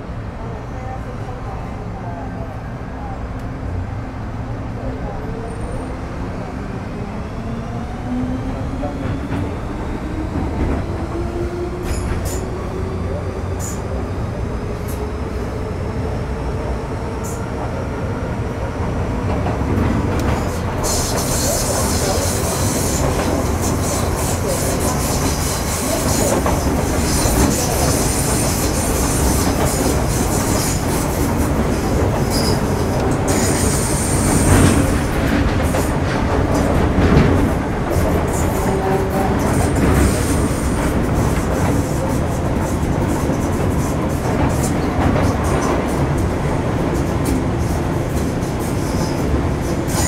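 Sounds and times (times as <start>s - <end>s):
train wheels rumbling on rails: 0.9s - 50.0s.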